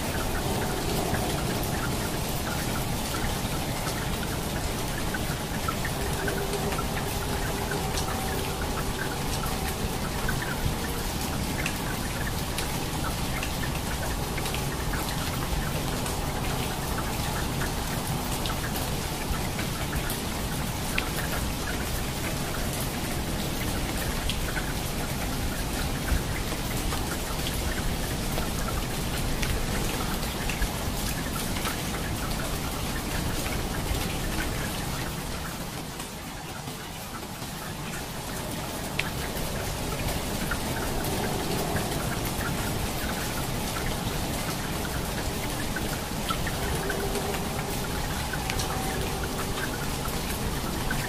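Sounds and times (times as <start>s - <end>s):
raindrops ticking: 0.0s - 51.0s
steady rain falling: 0.0s - 51.0s.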